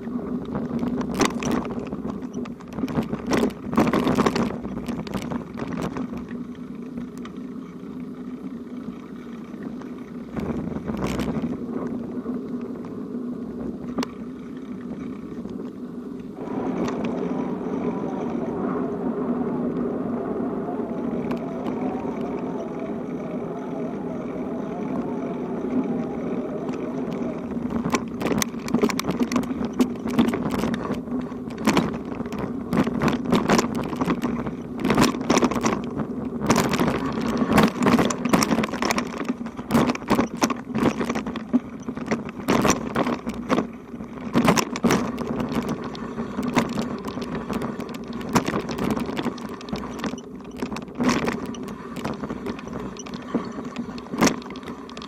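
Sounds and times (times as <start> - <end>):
bicycle rattling over rough surface: 0.0 - 55.0
bicycle riding hum: 0.0 - 55.0.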